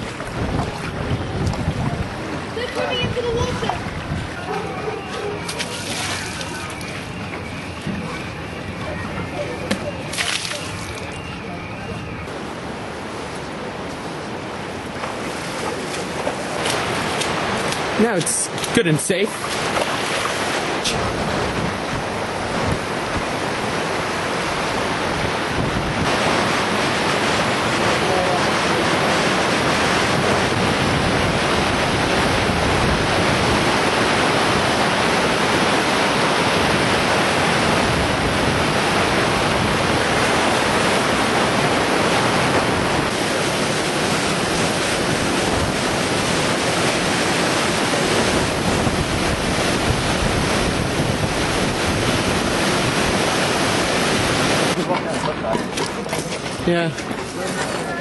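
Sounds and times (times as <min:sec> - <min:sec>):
wind buffeting microphone: 0:00.0 - 0:18.8, 0:19.4 - 0:58.0
floodwater rushing: 0:00.0 - 0:58.0.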